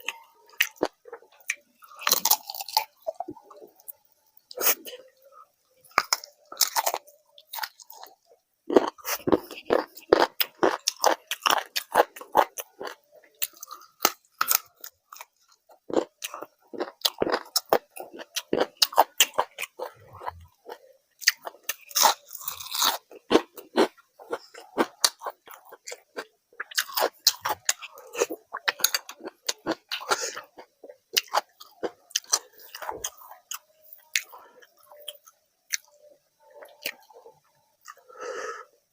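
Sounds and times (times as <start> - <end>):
crunchy chewing and biting: 0.0 - 5.0, 5.8 - 38.0.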